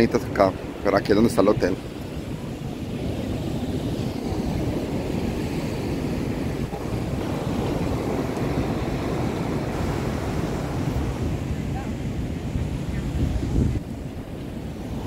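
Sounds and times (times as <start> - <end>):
rough surf on a beach: 0.0 - 15.0
wind buffeting microphone: 0.0 - 15.0.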